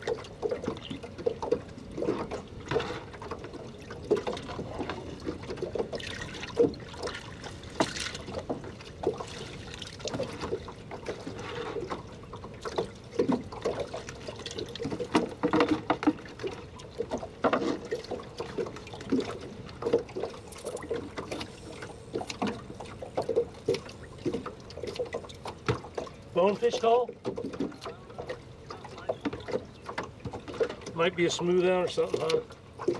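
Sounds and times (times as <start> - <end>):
small splashes: 0.0 - 31.1
water sloshing in a bucket: 0.0 - 32.9.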